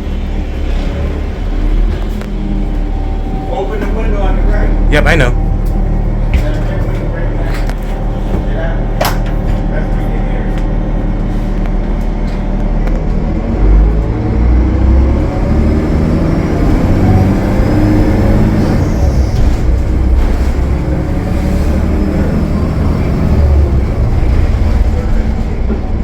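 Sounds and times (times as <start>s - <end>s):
bus diesel engine under load: 0.0s - 26.0s.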